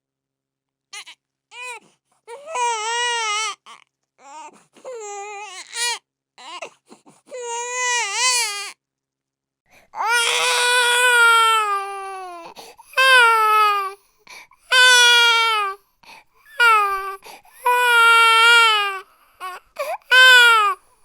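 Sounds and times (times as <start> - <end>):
baby crying: 1.0 - 8.7, 10.0 - 14.0, 14.6 - 15.8, 16.5 - 20.9.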